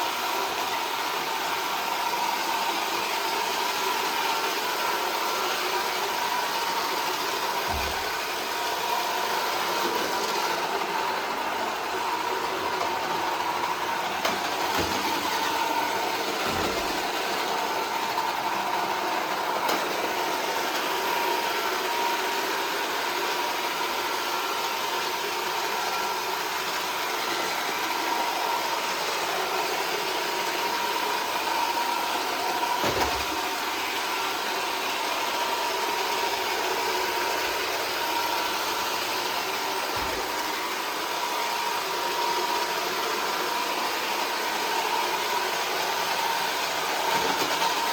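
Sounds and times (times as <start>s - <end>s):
robot vacuum whirring: 0.6s - 47.9s.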